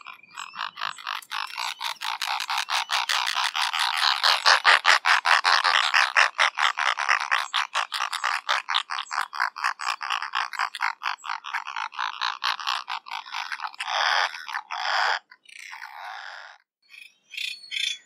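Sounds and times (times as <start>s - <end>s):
seabird harsh croaking calls: 0.0s - 16.6s.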